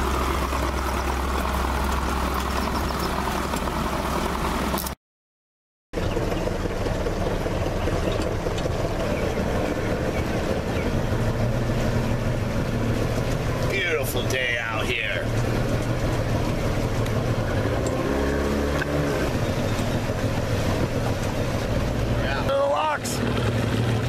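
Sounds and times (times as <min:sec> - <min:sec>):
boat motor running: 0:00.0 - 0:05.0, 0:06.0 - 0:24.0
water noise: 0:00.0 - 0:05.0, 0:06.0 - 0:24.0
wind: 0:00.0 - 0:05.0, 0:05.9 - 0:24.0.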